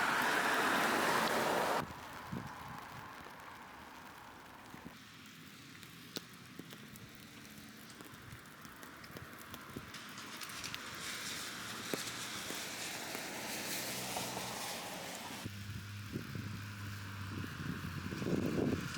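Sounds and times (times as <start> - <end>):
light rain pattering: 0.0 - 18.9.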